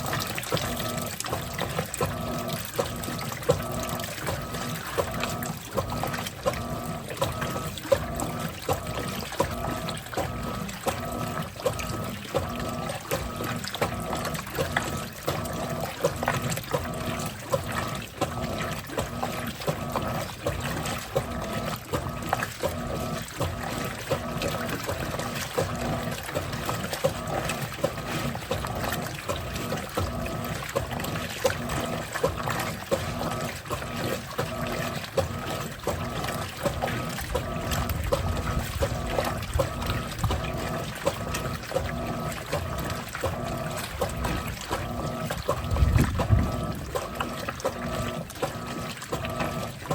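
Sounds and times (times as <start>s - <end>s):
washing machine hum: 0.0s - 49.9s
water running into tub: 0.0s - 49.9s.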